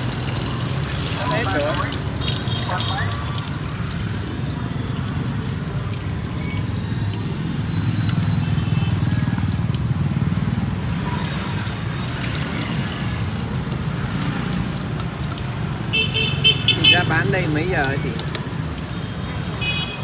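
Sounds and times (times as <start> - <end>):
street traffic engine rumble: 0.0 - 20.0.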